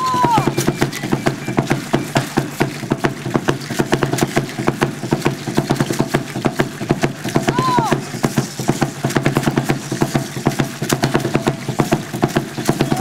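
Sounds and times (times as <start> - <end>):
low pulsing beat: 0.0 - 13.0
seed-pod ankle rattles: 0.0 - 13.0.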